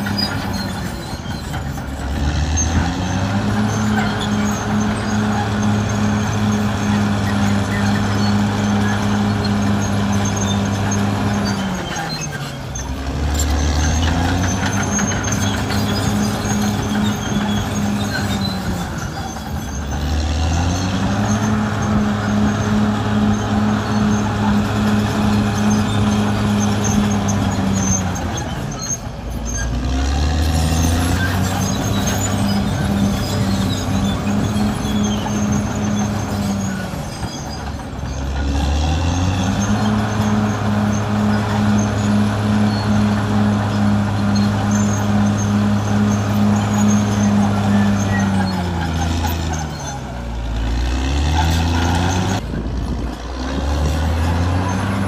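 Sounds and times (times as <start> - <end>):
bulldozer diesel engine running hard: 0.0 - 55.0.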